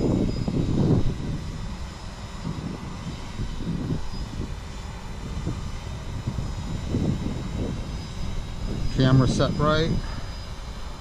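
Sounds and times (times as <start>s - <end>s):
drone propellers humming and whining: 0.0s - 11.0s
uneven low rumble: 0.0s - 11.0s.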